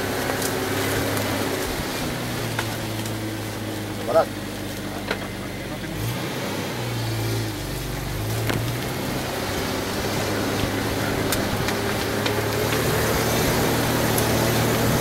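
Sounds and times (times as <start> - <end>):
vehicle engine running at low revs: 0.0 - 15.0.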